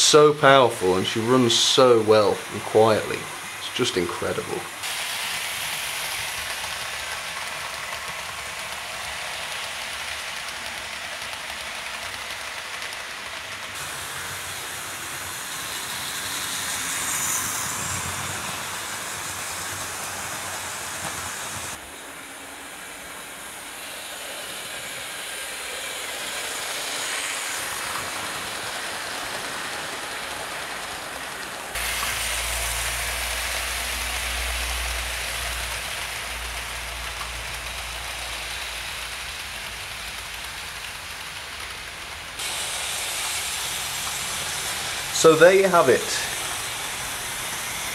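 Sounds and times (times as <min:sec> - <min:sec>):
model train running on track: 0:00.0 - 0:47.9.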